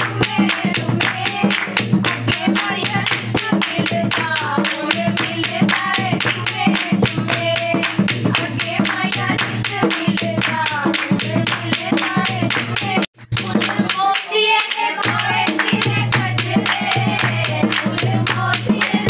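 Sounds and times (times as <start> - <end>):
people clapping: 0.0 - 19.0
people singing: 0.0 - 19.0.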